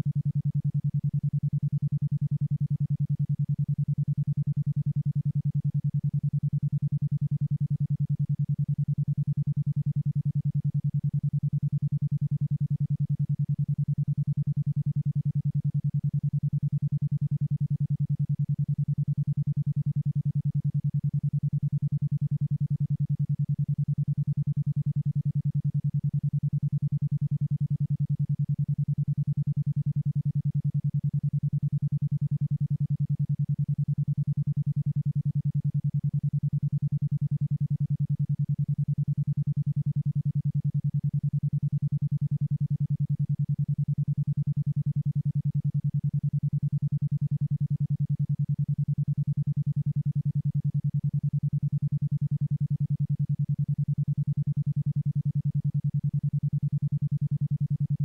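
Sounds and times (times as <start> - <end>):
pulsing low tone: 0.0 - 58.0.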